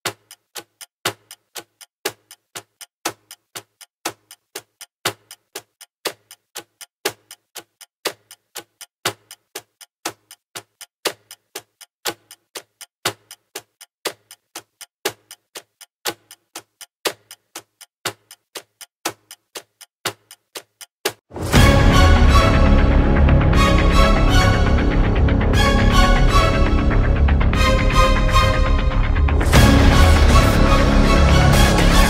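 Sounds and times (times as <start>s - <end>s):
rhythmic ticking music: 0.0s - 32.0s.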